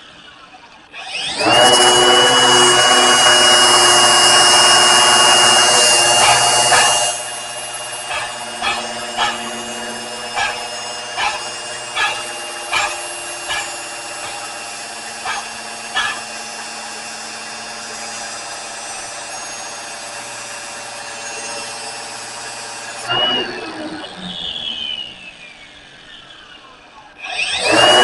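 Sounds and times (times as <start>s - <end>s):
electric grinder running: 1.0s - 26.6s, 27.2s - 28.0s.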